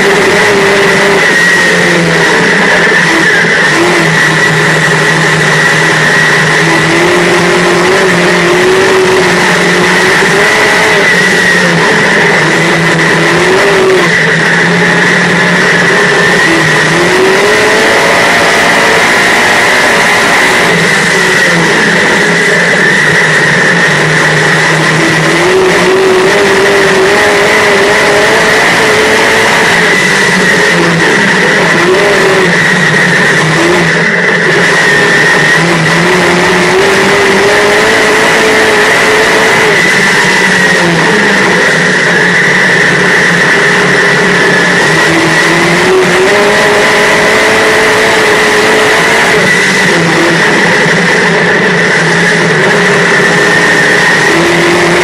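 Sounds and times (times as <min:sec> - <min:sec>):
high whine: 0:00.0 - 0:55.0
race car engine revving: 0:00.0 - 0:55.0
rushing wind and road noise: 0:00.0 - 0:55.0.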